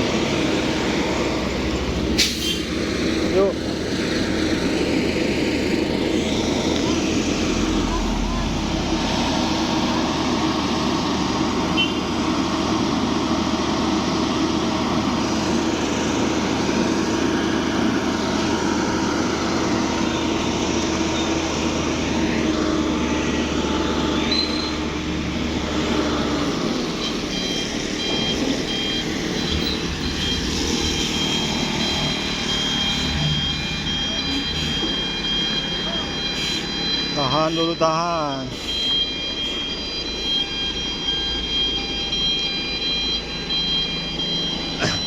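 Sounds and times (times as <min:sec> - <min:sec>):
large vehicle engines passing: 0:00.0 - 0:37.0.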